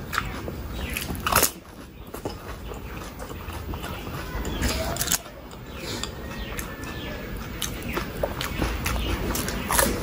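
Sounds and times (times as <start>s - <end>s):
chewing and wet mouth sounds: 0.0s - 10.0s.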